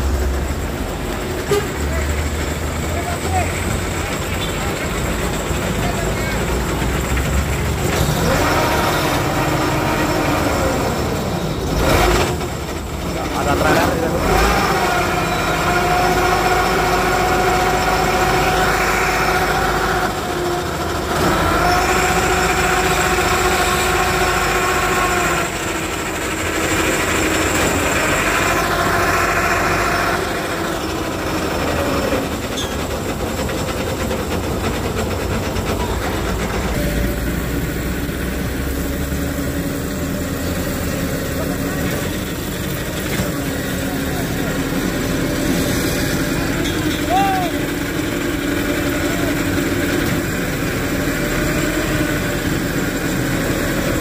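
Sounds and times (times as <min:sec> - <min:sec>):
diesel truck engine revving: 0:00.0 - 0:54.0.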